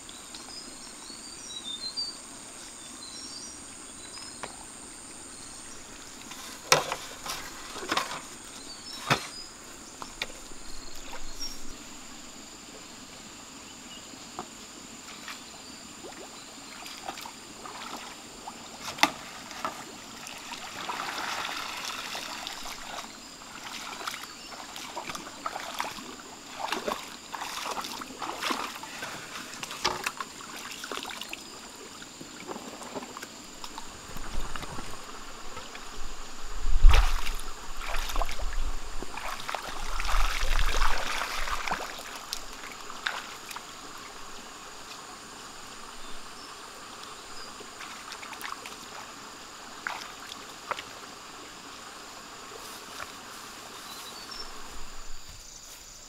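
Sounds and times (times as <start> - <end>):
thin insect drone: 0.0 - 56.0
water splashing and sloshing: 4.0 - 12.2, 15.0 - 55.4.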